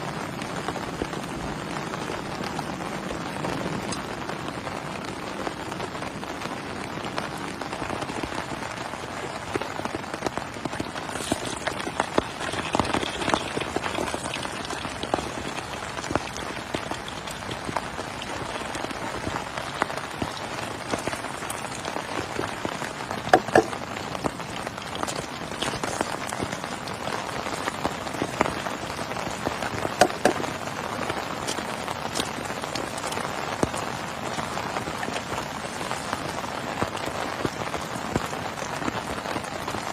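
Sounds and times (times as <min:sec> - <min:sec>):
heavy rain falling: 0:00.0 - 0:39.9
raindrops tapping a surface: 0:00.0 - 0:39.9.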